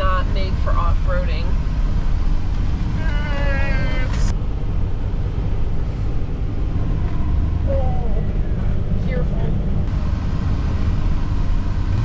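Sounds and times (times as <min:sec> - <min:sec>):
engine and tyres rumbling on gravel: 0:00.0 - 0:12.0.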